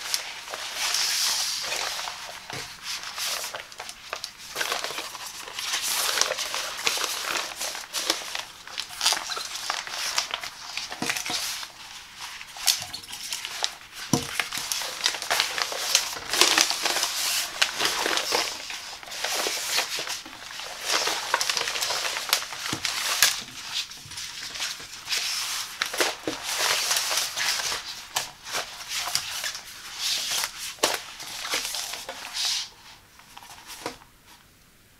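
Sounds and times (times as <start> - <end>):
plastic sheet crinkling: 0.0 - 34.4.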